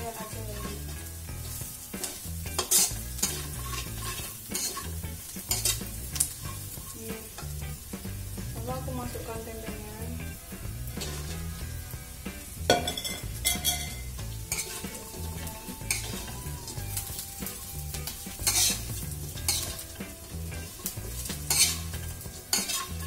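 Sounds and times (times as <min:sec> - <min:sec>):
food sizzling: 0:00.0 - 0:23.0
metal spatula scraping a wok: 0:00.1 - 0:08.3, 0:10.2 - 0:23.0.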